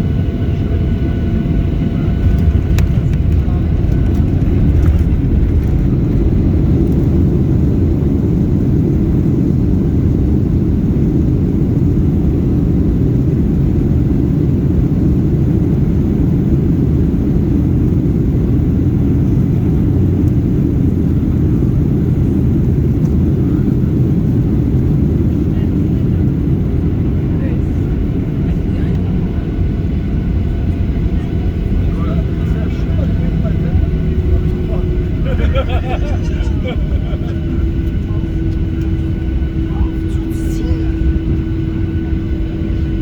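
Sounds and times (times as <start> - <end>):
airliner rumble: 0.0 - 43.0.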